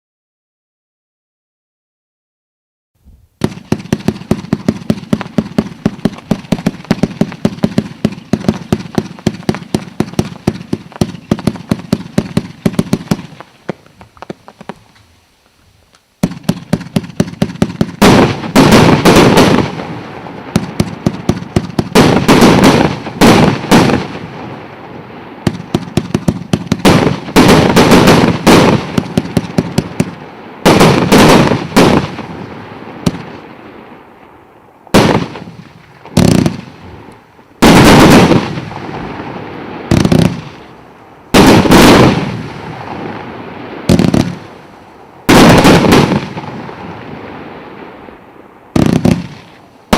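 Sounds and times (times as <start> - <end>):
fireworks bursts: 3.0 - 49.9
fireworks cracking: 3.0 - 49.9.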